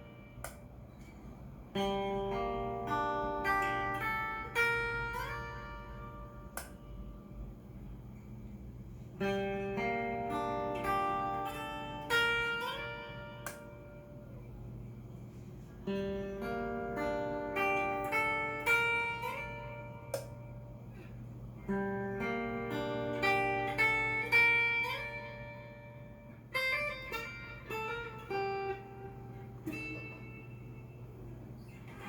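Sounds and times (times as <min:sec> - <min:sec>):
electric guitar picked notes: 0:00.0 - 0:08.5, 0:09.2 - 0:32.0
low amplifier hum: 0:00.0 - 0:32.0.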